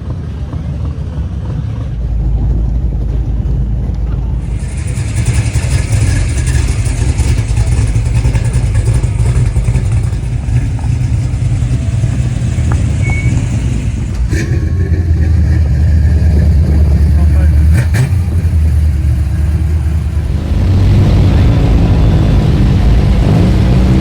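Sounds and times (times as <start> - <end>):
car engine rumbling: 0.0 - 24.0
road noise: 0.0 - 24.0.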